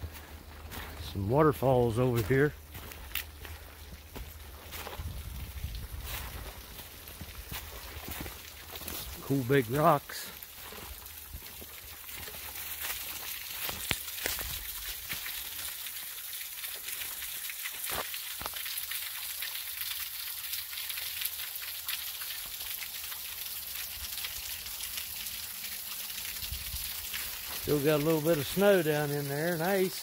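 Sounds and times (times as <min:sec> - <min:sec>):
water trickling: 0:00.0 - 0:30.0
water dripping on rocks: 0:01.9 - 0:30.0.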